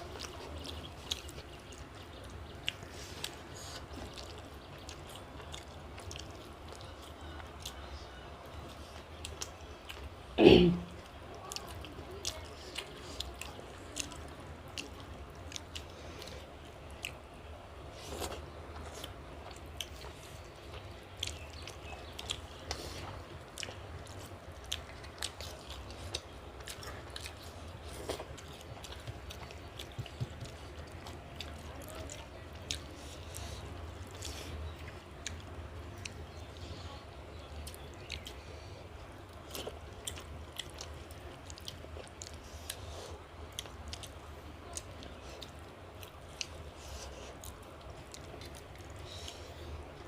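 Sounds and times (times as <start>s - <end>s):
close-up chewing: 0.0s - 50.0s
low steady hum: 0.0s - 50.0s.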